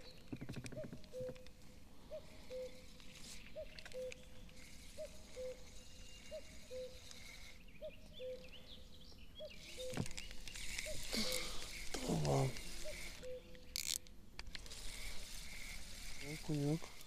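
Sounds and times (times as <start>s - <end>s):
higher bird chirping: 0.0s - 13.9s.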